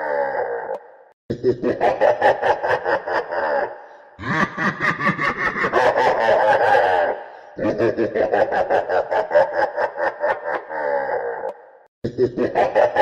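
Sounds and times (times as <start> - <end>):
villain's evil laugh: 1.3 - 13.0.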